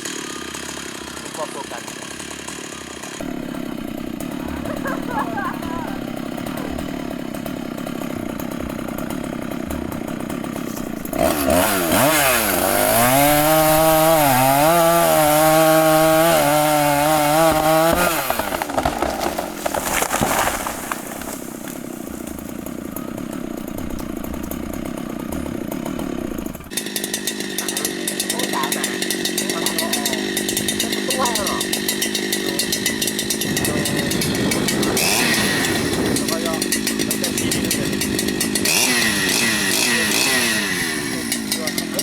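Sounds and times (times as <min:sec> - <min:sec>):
chainsaw cutting wood: 0:00.0 - 0:42.0.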